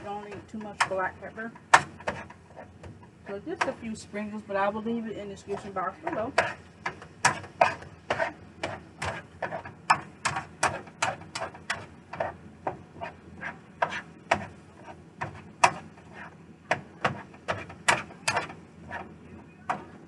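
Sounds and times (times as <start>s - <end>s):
utensil scraping a skillet: 0.0s - 19.9s.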